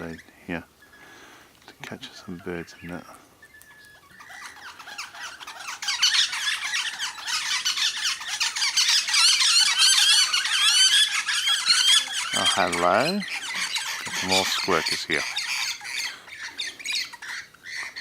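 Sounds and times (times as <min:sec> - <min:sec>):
flock of birds squeaking: 0:00.0 - 0:18.0.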